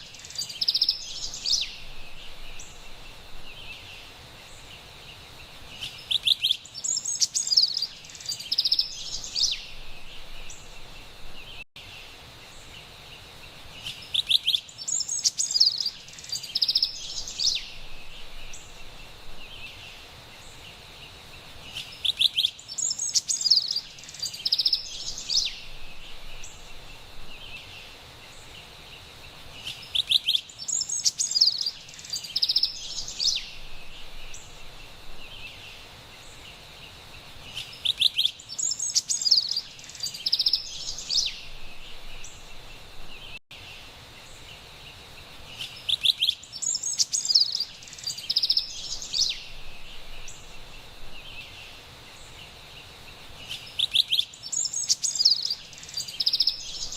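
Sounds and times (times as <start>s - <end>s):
wren singing: 0.0s - 11.6s, 13.8s - 20.6s, 21.5s - 28.6s, 29.5s - 43.4s, 45.5s - 56.9s
faint background noise: 0.0s - 56.9s.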